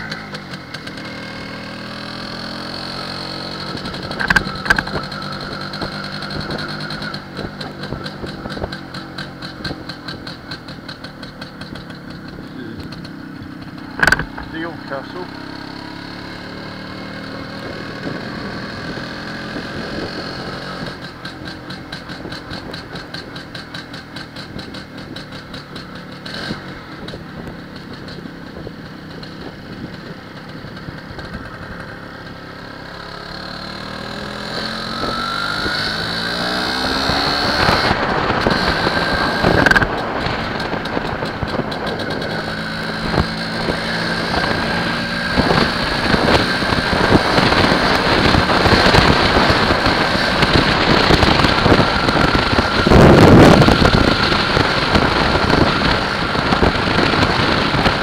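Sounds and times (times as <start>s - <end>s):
two-stroke motorcycle engine running: 0.0s - 58.0s.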